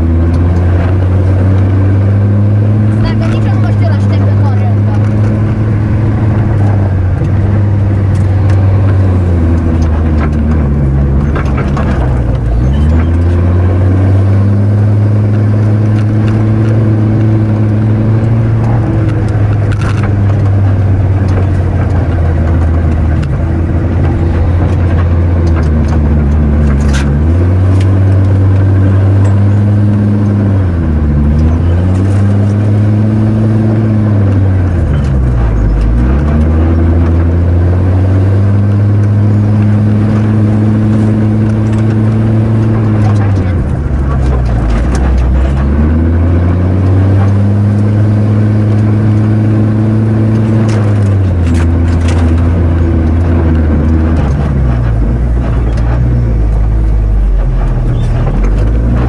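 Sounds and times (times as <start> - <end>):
off-road vehicle engine under load: 0.0 - 59.0.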